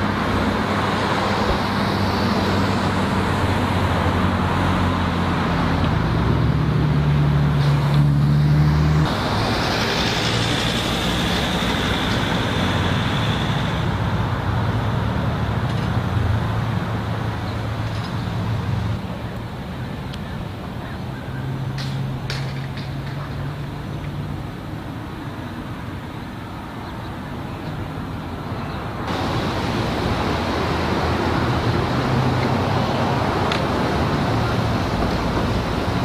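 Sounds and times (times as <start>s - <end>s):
street traffic noise: 0.0s - 36.0s.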